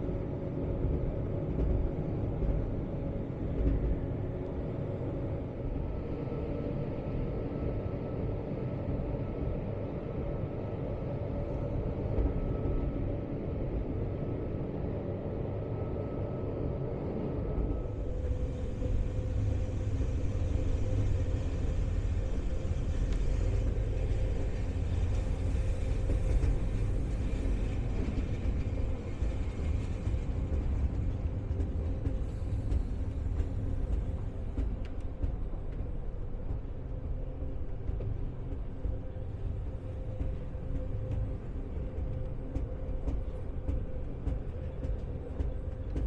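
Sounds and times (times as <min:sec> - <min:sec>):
train rumbling from inside: 0:00.0 - 0:46.0.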